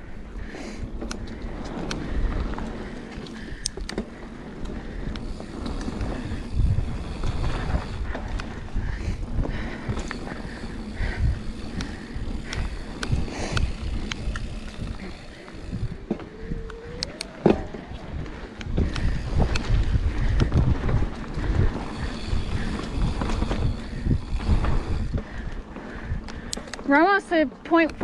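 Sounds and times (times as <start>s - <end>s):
bike chain and frame rattling: 0.0s - 28.0s
bike tyres rumbling over dirt: 0.0s - 28.0s
wind buffeting microphone: 0.0s - 28.0s.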